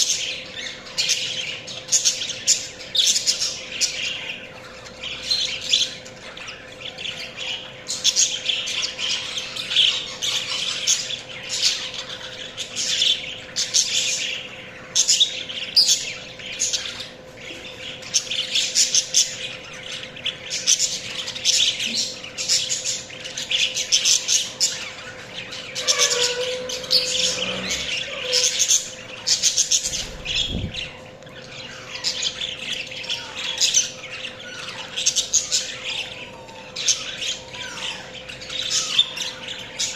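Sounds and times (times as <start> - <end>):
budgerigars chirping and chattering: 0.0 - 39.9
steady hum: 1.4 - 36.8.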